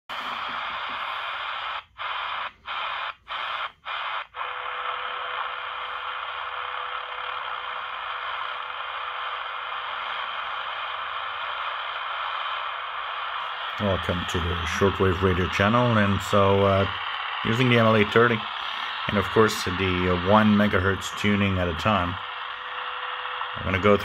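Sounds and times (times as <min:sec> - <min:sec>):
faint steady radio tone: 0:00.0 - 0:24.0
radio static hiss: 0:00.0 - 0:24.0.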